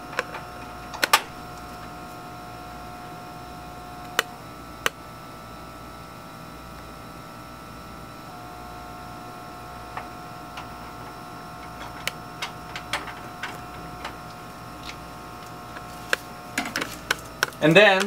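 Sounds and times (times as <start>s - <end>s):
steady tones: 0.0s - 5.1s, 8.2s - 18.0s
hood blower humming: 0.0s - 18.0s.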